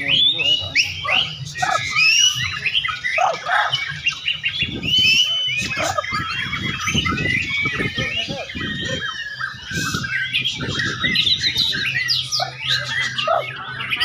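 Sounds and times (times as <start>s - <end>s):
chorus of caged songbirds: 0.0s - 14.0s
songbird singing whistled phrases: 0.0s - 14.0s.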